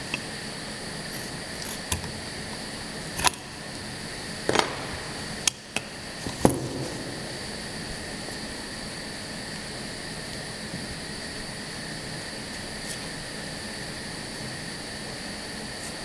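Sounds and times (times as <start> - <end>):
insertion machine humming: 0.0 - 16.0.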